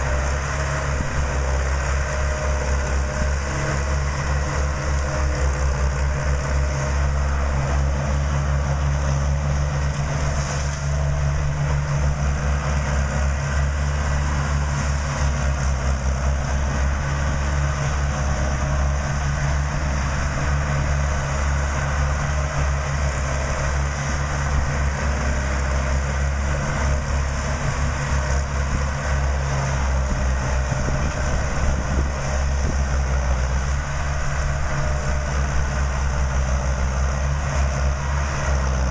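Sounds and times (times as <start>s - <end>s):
farm machine engine humming: 0.0s - 38.9s.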